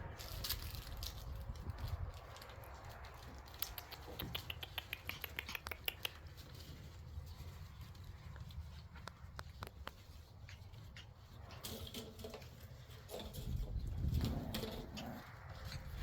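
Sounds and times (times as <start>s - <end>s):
puppy claws pattering and clicking: 0.2s - 16.0s.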